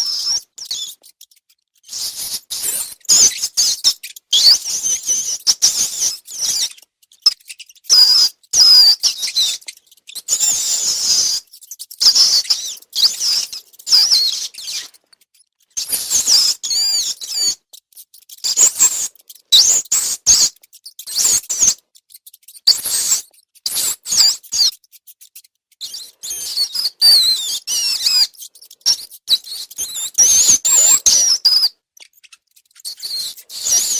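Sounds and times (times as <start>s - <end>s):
rats squeaking: 0.0s - 33.9s.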